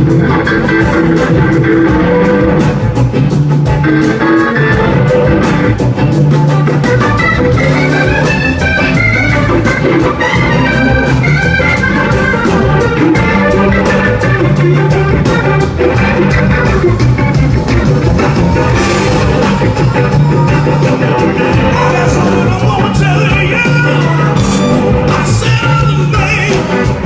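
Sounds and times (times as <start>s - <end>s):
band playing instrumental music: 0.0s - 27.0s
steady drum beat: 0.0s - 27.0s.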